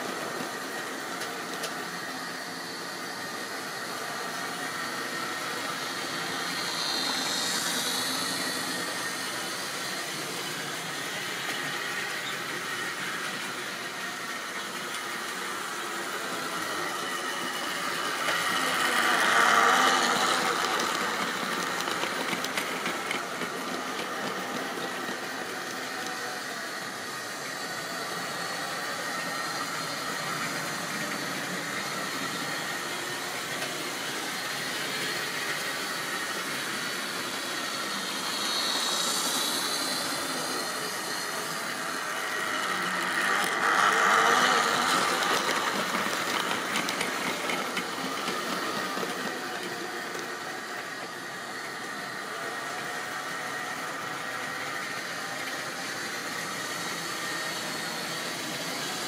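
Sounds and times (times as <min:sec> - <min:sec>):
model train wheels rattling on rails: 0:00.0 - 0:59.0
small electric motor humming: 0:00.0 - 0:59.0.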